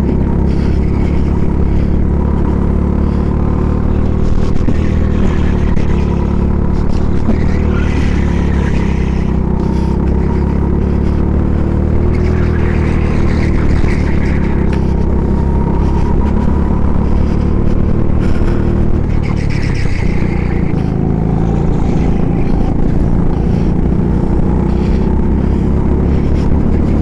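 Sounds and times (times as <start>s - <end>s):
go-kart engine droning: 0.0s - 27.0s.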